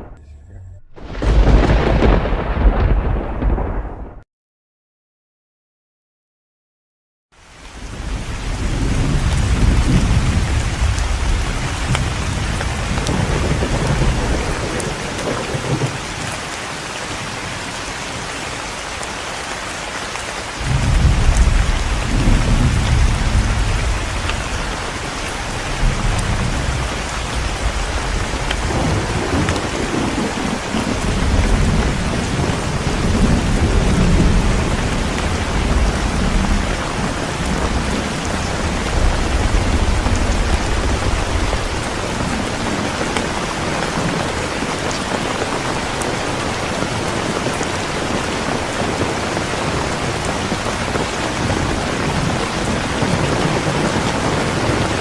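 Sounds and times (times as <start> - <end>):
heavy rain: 0.0 - 4.2, 7.4 - 55.0
thunder rumbling: 0.0 - 4.2, 7.7 - 55.0.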